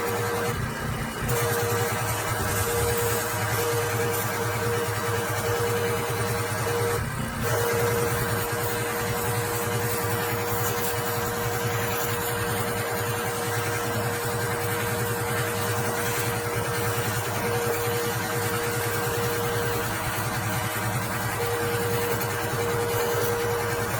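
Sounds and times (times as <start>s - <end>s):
pressure washer running: 0.0s - 23.9s.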